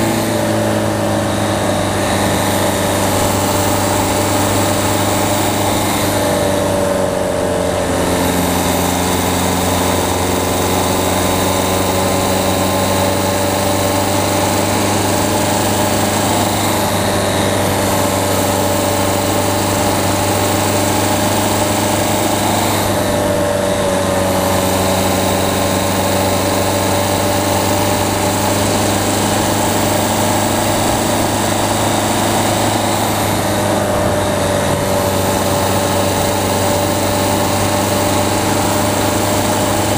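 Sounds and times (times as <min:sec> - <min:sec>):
car diesel engine running: 0:00.0 - 0:39.9.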